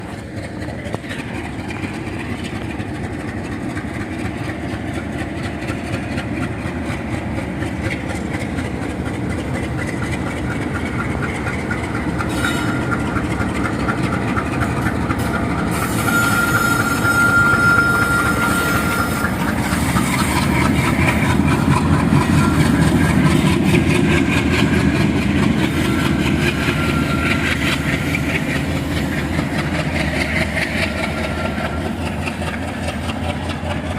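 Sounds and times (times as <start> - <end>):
diesel locomotives chugging: 0.0 - 33.9.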